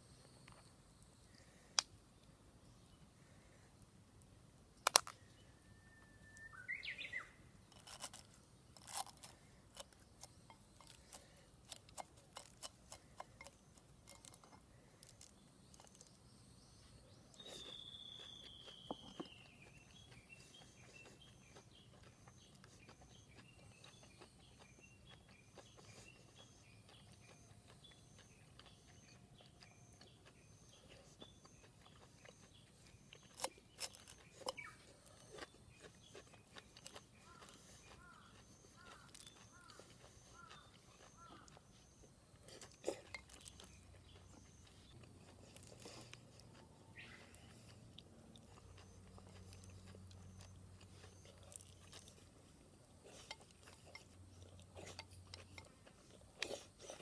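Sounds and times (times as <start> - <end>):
bird chirp: 4.7 - 57.0.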